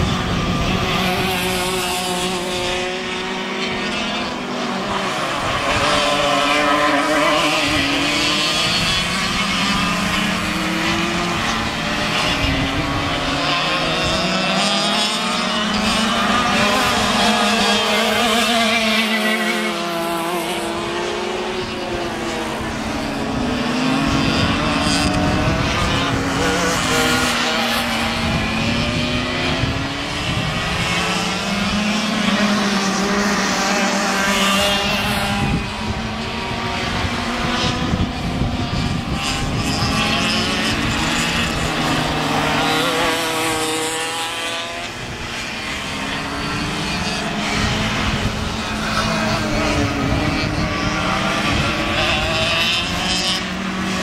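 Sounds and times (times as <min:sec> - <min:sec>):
kart engines revving: 0:00.0 - 0:54.0.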